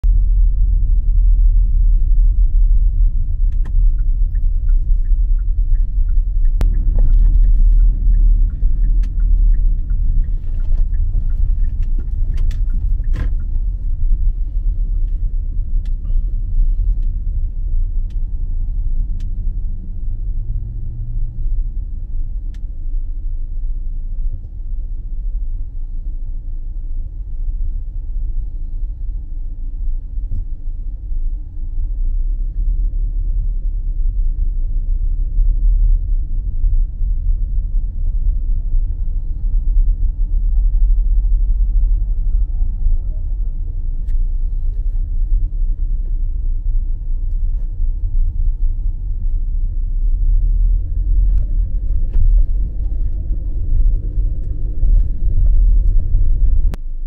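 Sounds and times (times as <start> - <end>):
car driving rumble: 0.0 - 57.0.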